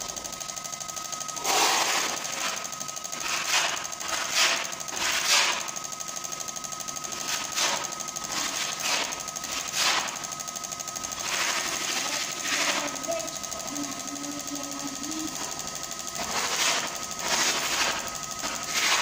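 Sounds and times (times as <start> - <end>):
steady whine: 0.0 - 19.0.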